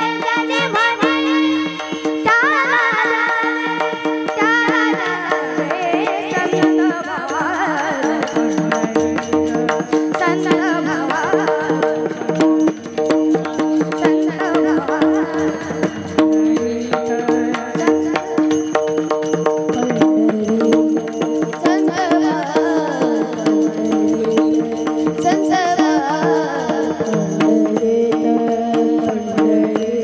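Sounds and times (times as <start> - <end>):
hand drum and cymbal rhythm: 0.0 - 30.0.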